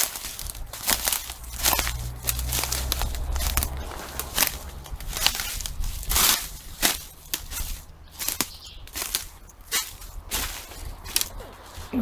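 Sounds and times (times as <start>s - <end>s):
footsteps crunching on dry ground: 0.0s - 12.0s
low steady rumble: 0.0s - 12.0s.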